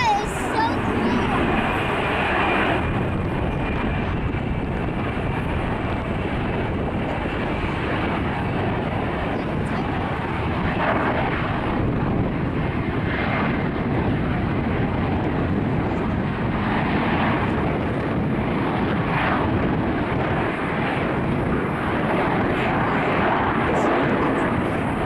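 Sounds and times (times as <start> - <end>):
jet engine running: 0.0 - 25.0.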